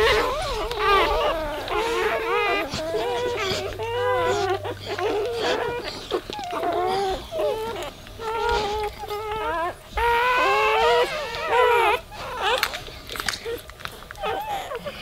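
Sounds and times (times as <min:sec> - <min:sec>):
puppies squealing and whimpering: 0:00.0 - 0:15.0
puppy crying: 0:00.0 - 0:15.0.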